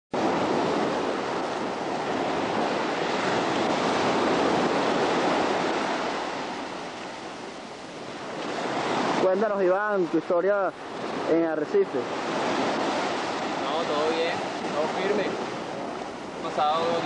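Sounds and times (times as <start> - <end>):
waves breaking on beach: 0.1 - 17.0.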